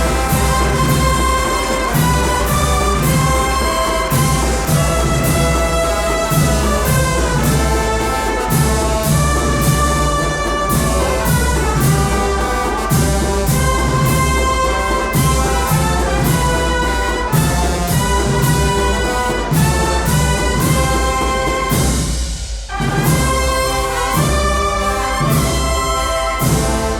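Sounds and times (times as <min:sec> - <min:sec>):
brass melody: 0:00.0 - 0:26.9
drum strokes: 0:00.0 - 0:26.9.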